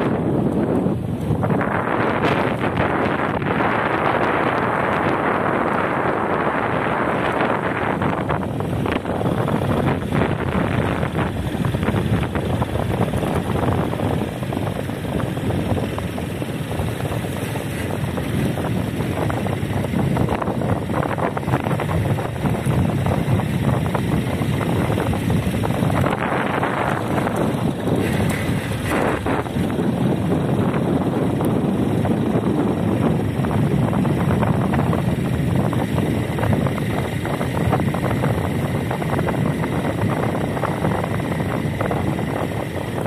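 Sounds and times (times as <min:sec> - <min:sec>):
moving vehicle rumble: 0:00.0 - 0:43.0
wind buffeting microphone: 0:00.0 - 0:43.0.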